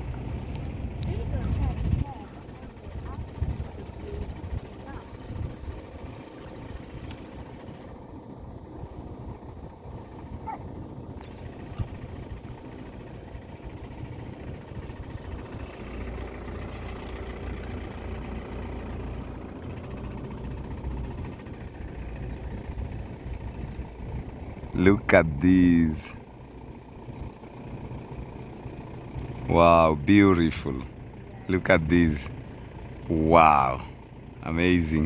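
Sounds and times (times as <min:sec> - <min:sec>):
vehicle engine low rumble: 0:00.0 - 0:35.0.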